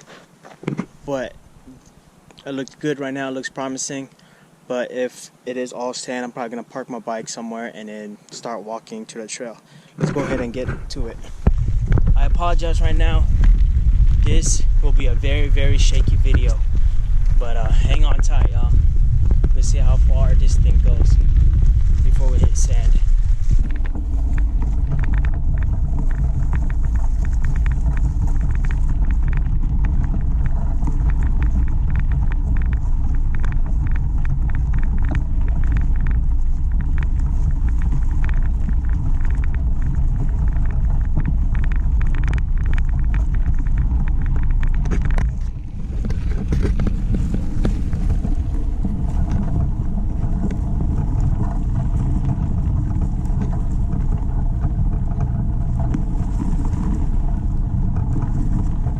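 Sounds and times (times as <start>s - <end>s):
bike rattling: 0.0s - 2.2s, 9.7s - 58.9s
wind and tyre rumble: 0.0s - 58.9s.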